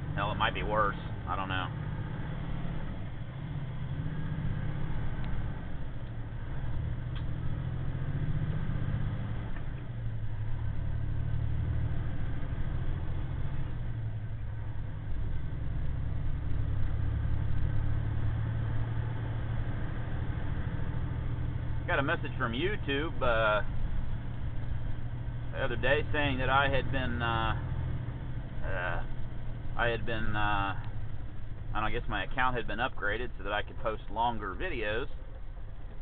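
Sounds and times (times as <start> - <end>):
diesel engine drone: 0.0 - 36.0
road noise: 0.0 - 36.0.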